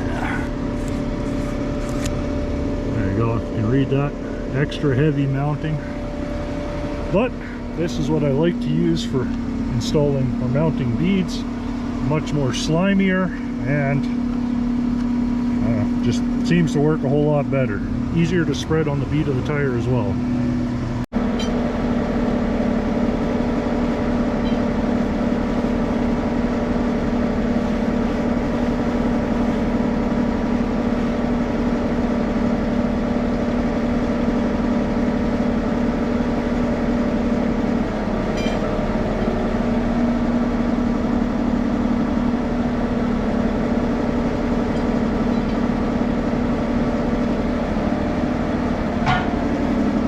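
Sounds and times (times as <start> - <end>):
engine droning steadily: 0.0 - 50.0.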